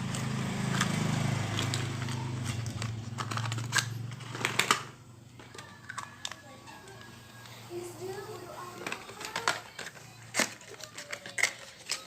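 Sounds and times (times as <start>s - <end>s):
plastic rattling: 0.7s - 7.1s, 8.6s - 12.0s.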